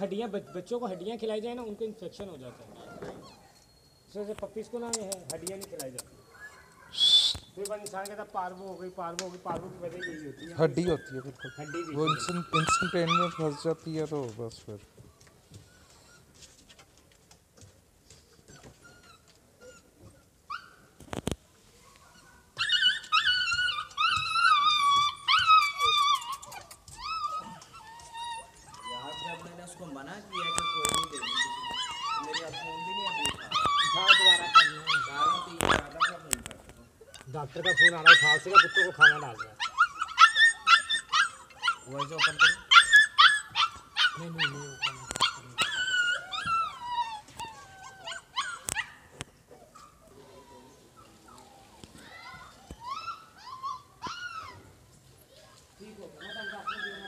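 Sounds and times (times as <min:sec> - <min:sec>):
puppies yipping: 0:00.2 - 0:13.8, 0:21.8 - 0:57.0
puppies whining: 0:00.2 - 0:14.0, 0:15.0 - 0:16.3, 0:18.2 - 0:21.0, 0:21.8 - 0:57.0.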